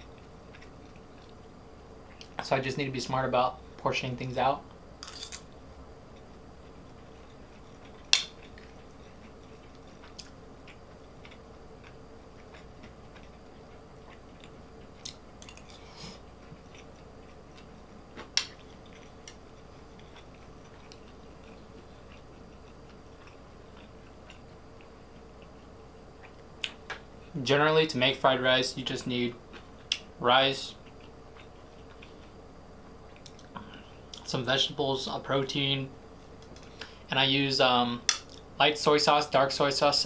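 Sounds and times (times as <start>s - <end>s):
faint hum: 0.0s - 40.0s.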